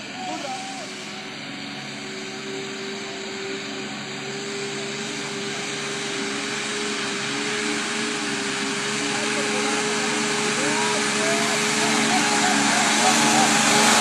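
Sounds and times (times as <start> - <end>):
constant whine: 0.0 - 14.0
truck engine running: 0.0 - 14.0.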